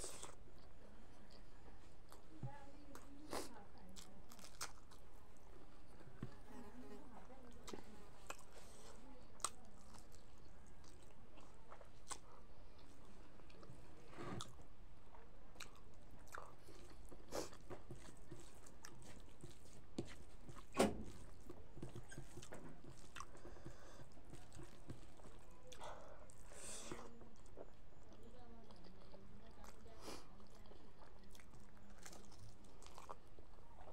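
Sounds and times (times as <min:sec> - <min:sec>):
person chewing food: 0:00.0 - 0:06.8, 0:07.6 - 0:33.9.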